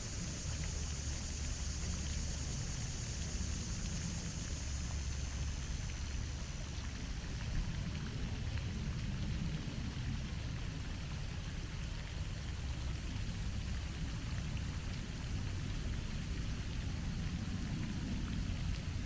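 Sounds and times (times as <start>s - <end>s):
fountain water splashing: 0.0s - 19.0s
low steady rumble: 0.0s - 19.0s.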